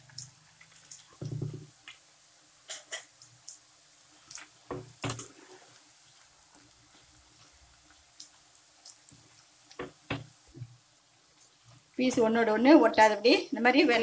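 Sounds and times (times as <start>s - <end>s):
oil sizzling with pops: 0.0s - 14.0s.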